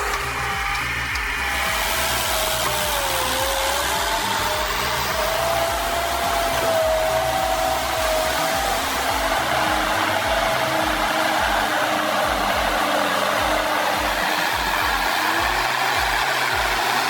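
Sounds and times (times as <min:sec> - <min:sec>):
background music with low beat: 0:00.0 - 0:17.0
heavy machinery whirring: 0:00.0 - 0:17.0.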